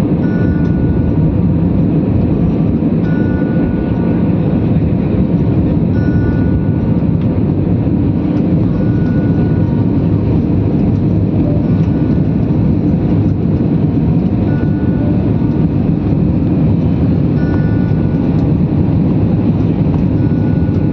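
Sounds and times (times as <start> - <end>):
airplane engine rumble: 0.0 - 20.9
faint high engine tone: 0.0 - 20.9.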